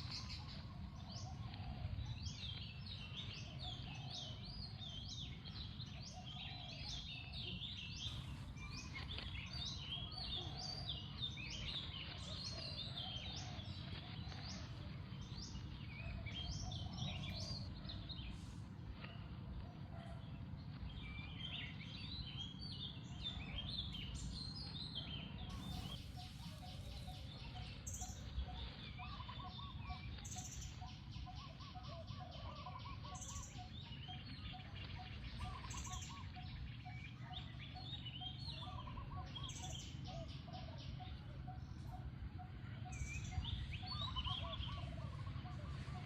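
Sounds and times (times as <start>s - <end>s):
birds chirping and calling: 0.0s - 46.0s
low background rumble: 0.0s - 46.0s.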